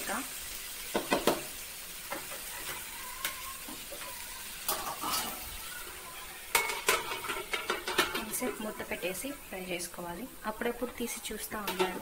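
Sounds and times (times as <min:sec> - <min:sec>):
okra sizzling in oil: 0:00.0 - 0:12.0.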